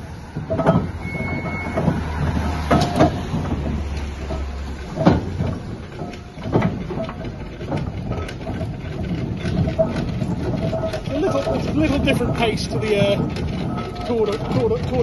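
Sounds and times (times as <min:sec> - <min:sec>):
steam engine knocks and clanks: 0:00.0 - 0:15.0.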